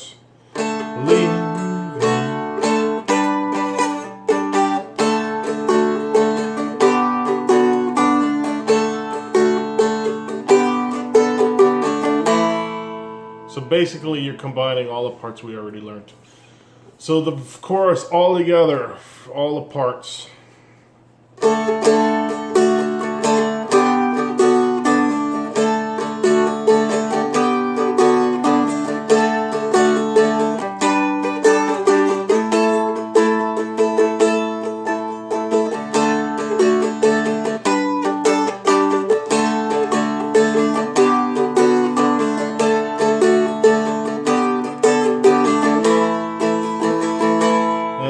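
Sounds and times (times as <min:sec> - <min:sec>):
dulcimer strummed with a pick: 0:00.5 - 0:13.5, 0:21.4 - 0:48.0.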